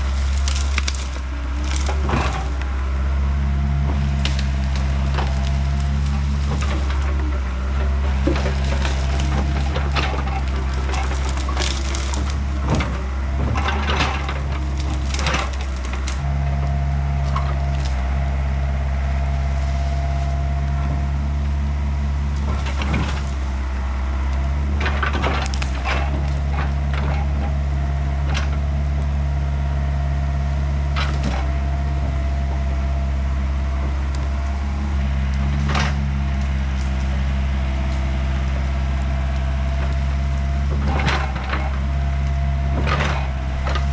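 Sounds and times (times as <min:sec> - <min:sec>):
diesel excavator engine running: 0:00.0 - 0:43.9
wood cracking and splintering: 0:00.0 - 0:43.9.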